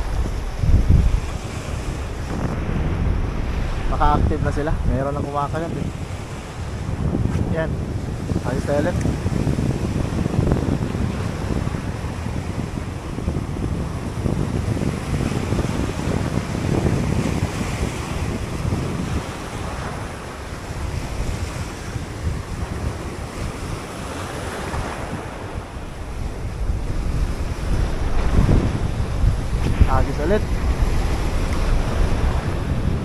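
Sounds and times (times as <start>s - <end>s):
sea surf breaking over rocks: 0.0s - 33.0s
wind buffeting microphone: 0.0s - 33.0s.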